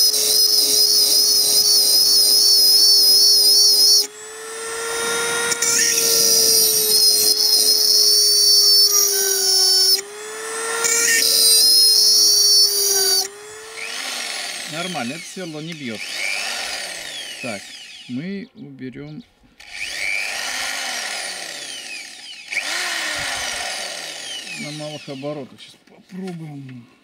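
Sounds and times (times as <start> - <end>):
rotary tool drilling into steel: 0.0 - 18.1, 19.6 - 25.4.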